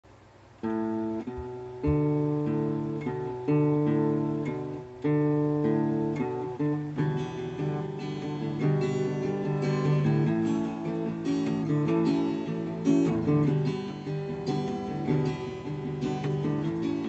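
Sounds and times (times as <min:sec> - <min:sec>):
acoustic guitar chords: 0:00.1 - 0:17.0.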